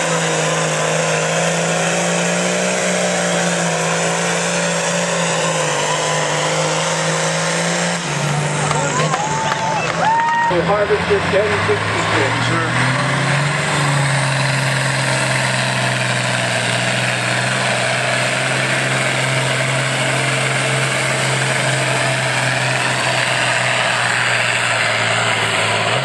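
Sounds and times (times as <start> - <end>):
tractor diesel engine running hard: 0.0 - 26.0.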